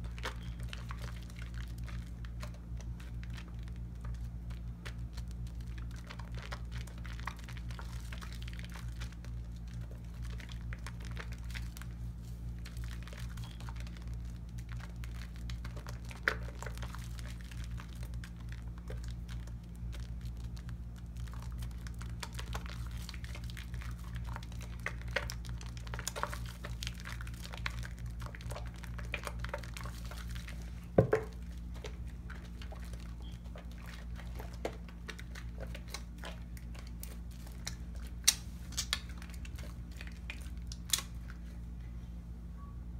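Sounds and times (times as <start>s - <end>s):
soap lather squishing: 0.0s - 41.7s
steady low hum: 0.0s - 42.9s.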